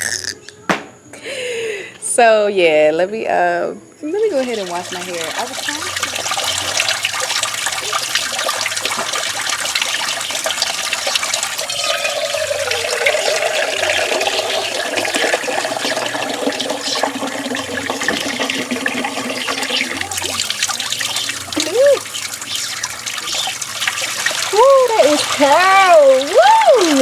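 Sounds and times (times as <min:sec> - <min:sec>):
tap water splashing into sink: 0:04.2 - 0:27.0.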